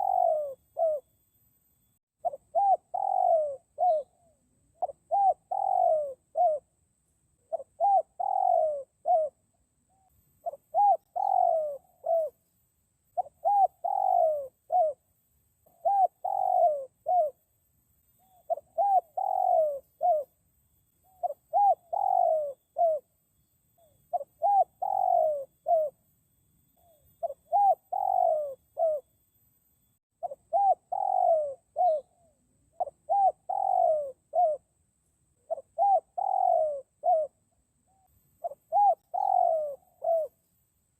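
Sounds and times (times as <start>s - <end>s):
dove cooing: 0.0s - 1.1s, 2.2s - 6.8s, 7.4s - 12.4s, 13.1s - 17.4s, 18.2s - 20.4s, 21.0s - 23.1s, 23.8s - 26.1s, 26.8s - 29.1s, 30.2s - 34.7s, 35.4s - 40.4s.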